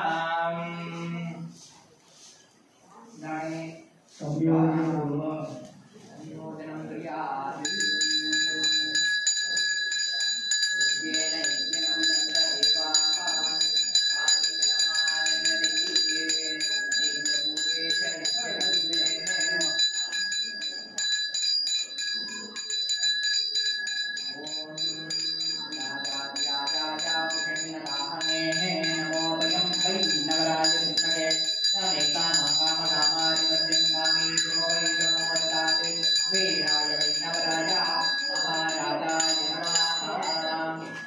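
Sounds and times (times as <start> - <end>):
bell ringing rapidly: 7.6 - 41.0.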